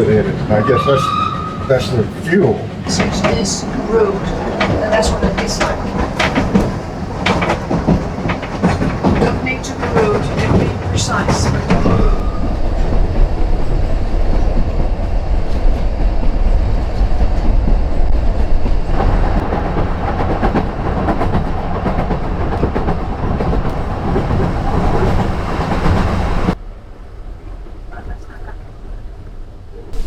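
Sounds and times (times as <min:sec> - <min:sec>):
train rumble with wheel clatter: 0:00.0 - 0:30.0.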